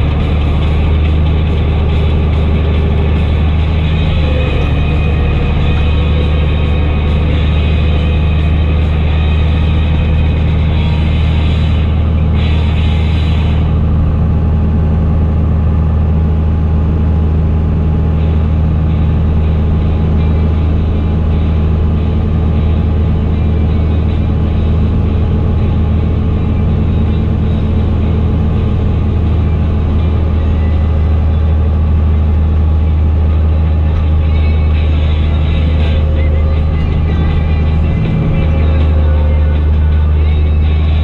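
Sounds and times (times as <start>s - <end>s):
tractor diesel engine droning: 0.0s - 41.0s.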